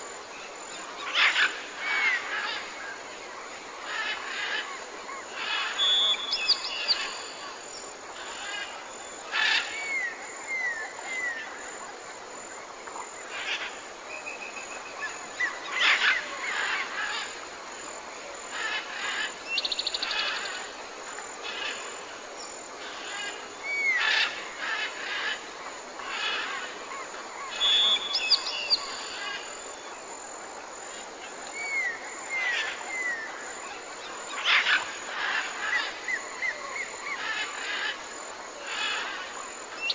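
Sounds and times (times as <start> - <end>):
steady outdoor hiss: 0.0 - 39.9.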